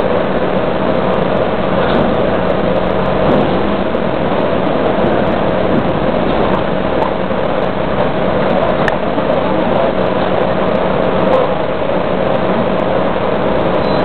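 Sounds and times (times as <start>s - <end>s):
constant hum: 0.0s - 14.0s
lift machinery drone: 0.0s - 14.0s.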